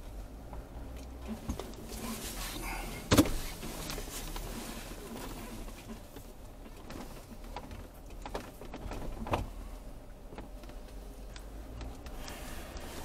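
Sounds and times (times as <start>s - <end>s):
knocks and rattles of vehicle body: 0.0s - 13.0s
low engine rumble: 0.0s - 13.0s.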